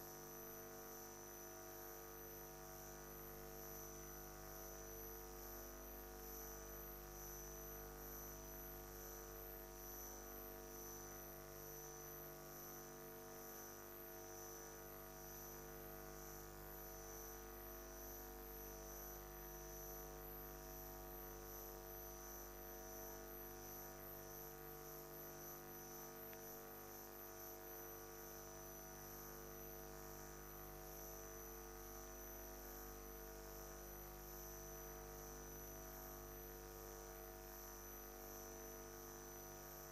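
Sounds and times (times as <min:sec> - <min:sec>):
faint hum of held tones: 0:00.0 - 0:39.9.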